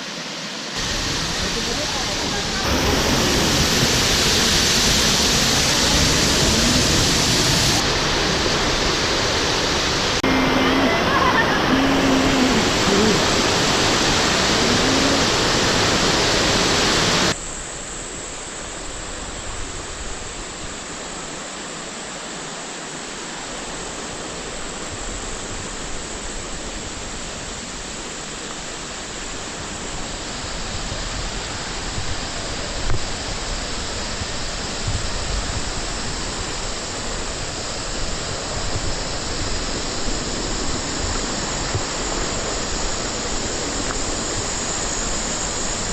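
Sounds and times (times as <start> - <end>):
steady rushing noise: 0.0 - 21.4, 23.8 - 45.9.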